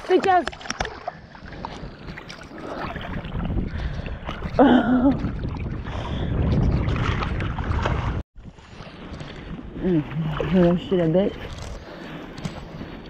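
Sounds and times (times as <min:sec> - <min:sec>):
water sloshing and splashing: 0:00.0 - 0:13.0
wind on microphone: 0:01.0 - 0:13.0.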